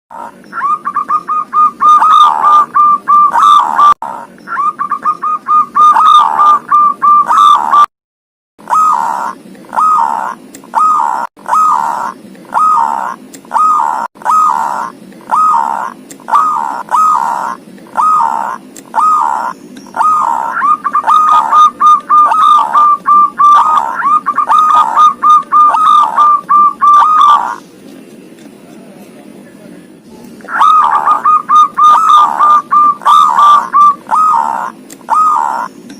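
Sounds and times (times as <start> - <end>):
dove cooing loudly: 0.1 - 7.9, 8.6 - 27.6, 30.4 - 35.8.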